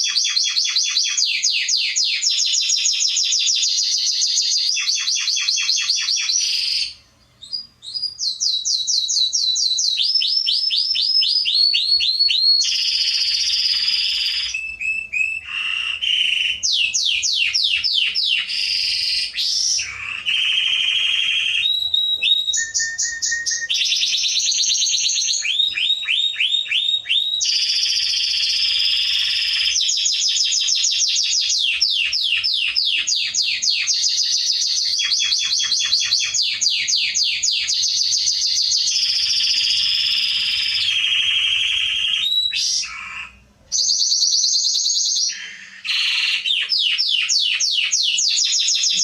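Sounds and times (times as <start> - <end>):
canary singing trills: 0.0 - 49.0.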